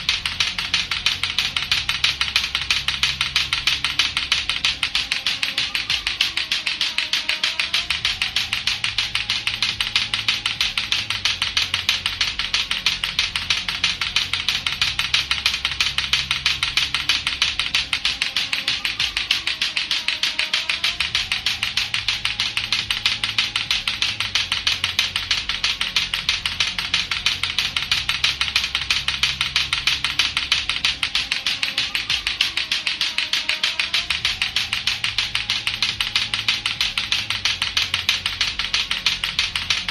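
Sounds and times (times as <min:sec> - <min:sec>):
clacker balls clacking: 0:00.0 - 0:39.9.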